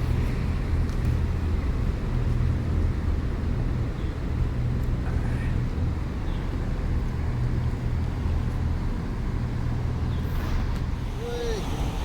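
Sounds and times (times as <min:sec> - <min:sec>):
background rumble: 0:00.0 - 0:12.0
low engine drone: 0:00.0 - 0:12.0.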